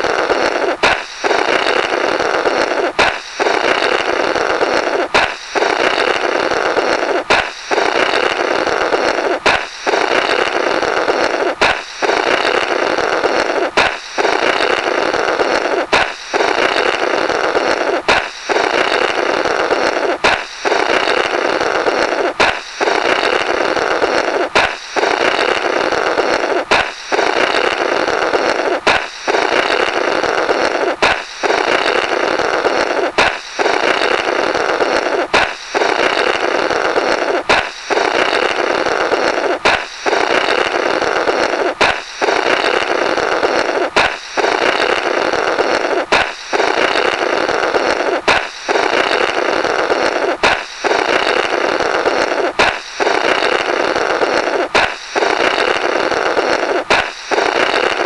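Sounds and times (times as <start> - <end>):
balloon popping: 0.0 - 58.0
comical rasping air blow: 0.0 - 58.0.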